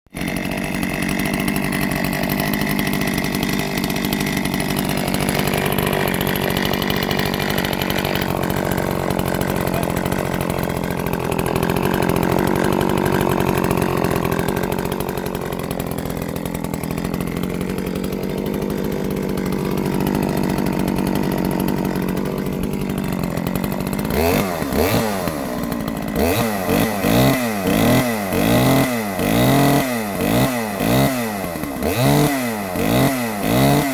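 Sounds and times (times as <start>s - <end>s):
chainsaw running and revving: 0.1s - 33.9s.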